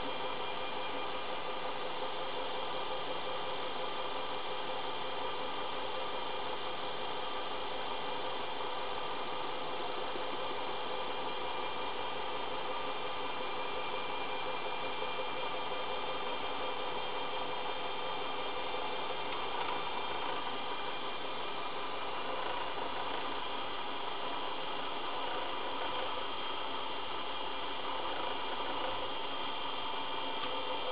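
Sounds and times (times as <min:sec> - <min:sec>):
lathe motor whine and hum: 0:00.0 - 0:30.9.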